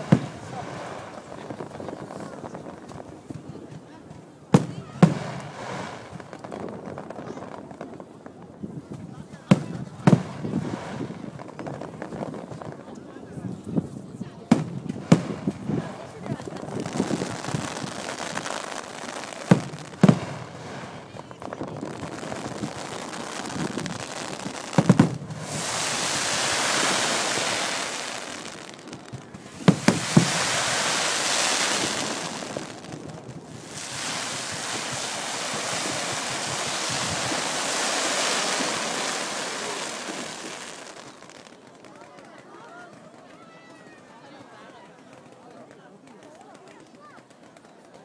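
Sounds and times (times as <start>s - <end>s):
firework bangs: 0.0s - 3.9s, 4.5s - 8.1s, 9.4s - 12.8s, 14.5s - 42.0s
fireworks hissing crackle: 0.0s - 12.9s, 14.6s - 42.0s.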